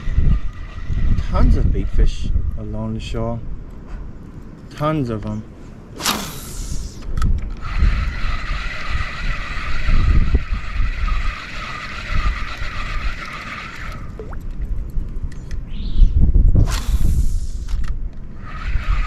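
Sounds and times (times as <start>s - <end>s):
wind rumble on microphone: 0.0s - 4.2s, 6.3s - 13.2s, 13.9s - 19.0s.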